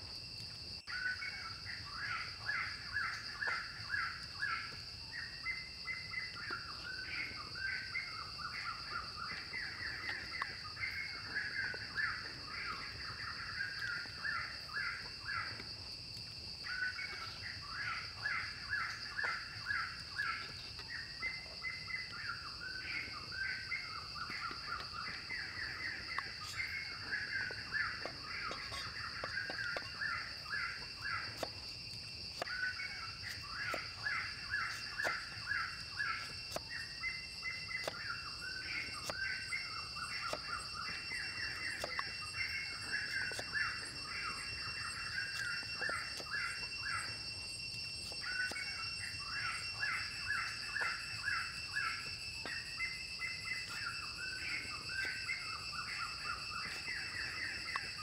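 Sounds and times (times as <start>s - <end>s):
birds chirping: 0.8s - 58.0s
steady high-pitched drone: 1.3s - 58.0s.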